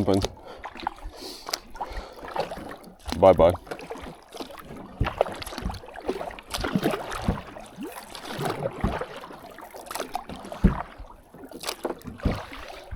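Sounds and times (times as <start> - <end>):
paddle splashing and dripping: 0.0 - 12.9.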